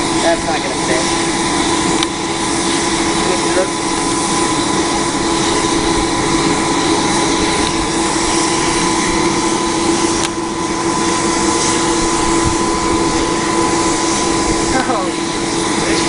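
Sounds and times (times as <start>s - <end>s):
air blower whine: 0.0s - 16.0s.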